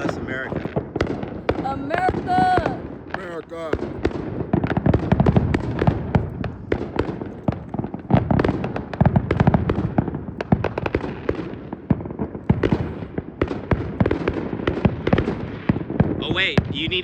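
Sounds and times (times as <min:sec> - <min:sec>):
fireworks popping and banging: 0:00.0 - 0:17.0.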